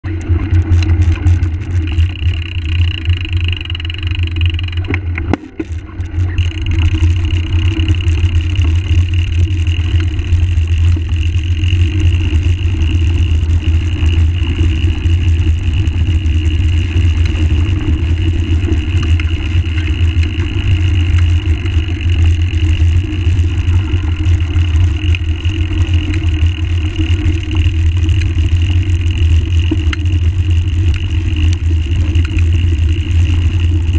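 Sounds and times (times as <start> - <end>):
bike tyres on gravel: 0.1 - 33.9
wind rumble: 0.2 - 33.9.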